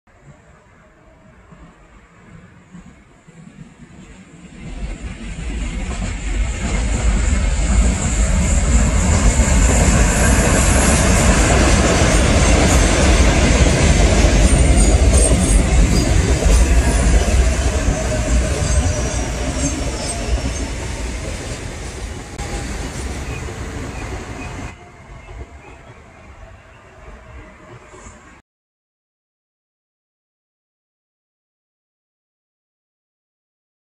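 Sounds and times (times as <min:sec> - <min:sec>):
train wheels rumbling on rails: 0:00.2 - 0:28.4.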